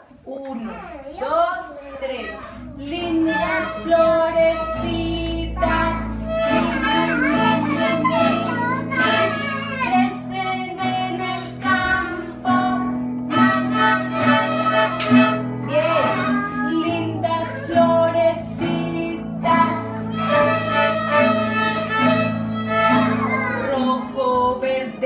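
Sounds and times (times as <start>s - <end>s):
acoustic guitar: 1.1s - 25.0s
children singing together: 1.8s - 25.0s.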